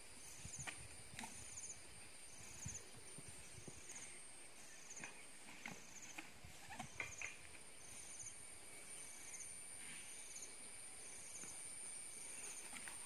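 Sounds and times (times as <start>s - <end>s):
insects buzzing high-pitched: 0.0s - 13.0s
short pulsed insect chirp: 0.0s - 13.0s.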